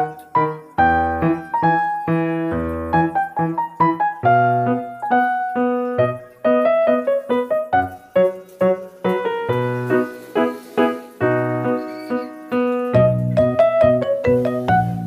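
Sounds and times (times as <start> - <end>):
piano notes: 0.0 - 15.0.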